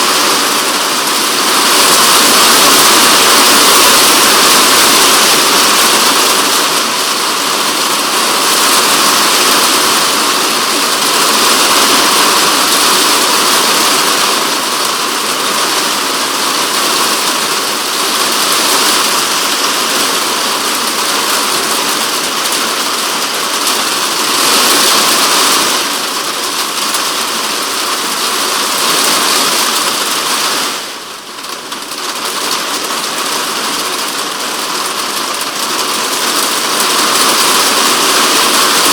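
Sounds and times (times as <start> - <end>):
heavy rain drumming on shed roof: 0.0 - 38.9.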